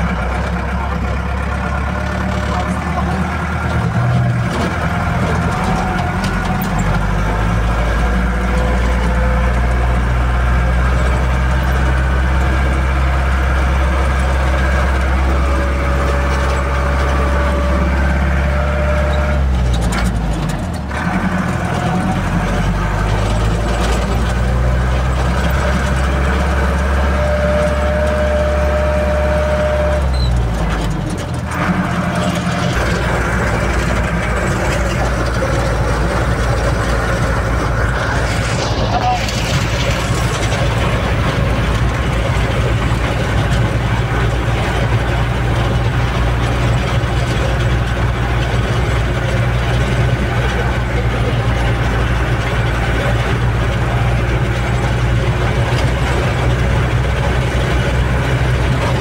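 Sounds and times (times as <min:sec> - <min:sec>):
rattling road noise: 0:00.0 - 0:59.0
truck engine drone: 0:00.0 - 0:59.0.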